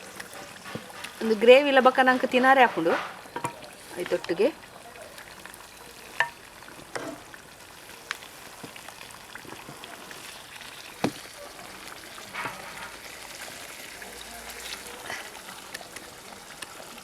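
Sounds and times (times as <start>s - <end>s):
gravy sizzling in a pan: 0.0s - 17.0s.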